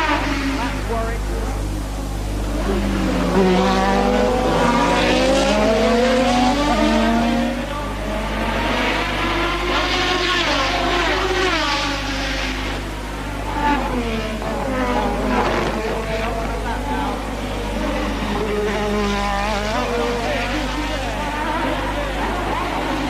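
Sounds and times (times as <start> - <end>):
racing car engines accelerating: 0.0 - 23.0.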